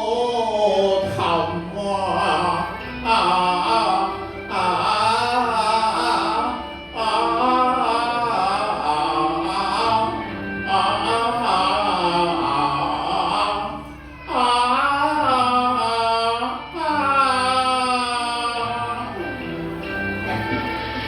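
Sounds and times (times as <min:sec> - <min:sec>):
instrumental accompaniment: 0:00.0 - 0:21.0
opera singing: 0:00.0 - 0:21.0.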